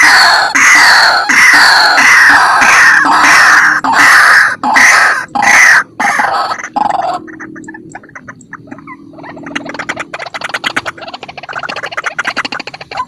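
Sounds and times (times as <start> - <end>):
waterhen harsh calls: 0.0 - 13.0.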